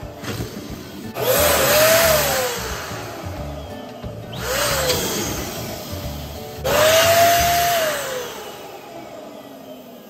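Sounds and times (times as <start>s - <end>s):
electric balloon pump whining: 0.0s - 10.0s.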